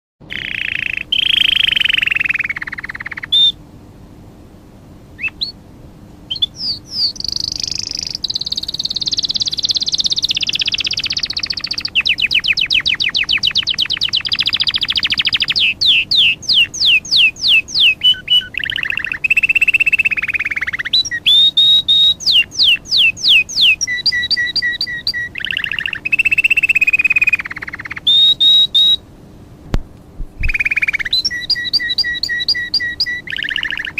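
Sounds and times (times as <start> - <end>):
songbird singing: 0.2 - 3.7, 5.1 - 33.9.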